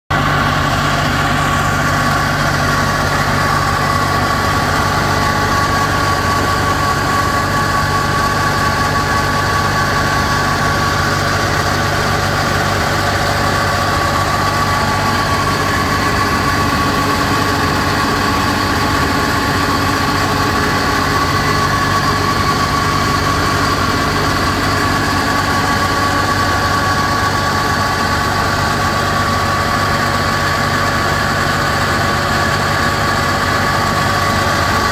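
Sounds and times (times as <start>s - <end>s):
small diesel engine running: 0.1s - 34.9s
steady high whine: 0.1s - 34.9s.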